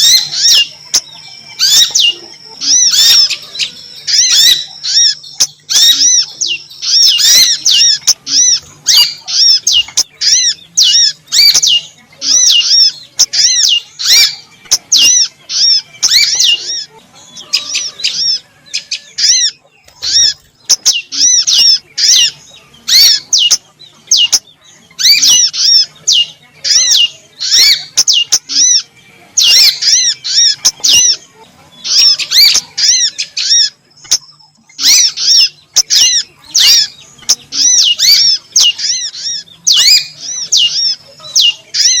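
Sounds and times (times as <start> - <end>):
high songbird chirps: 0.0 - 42.0.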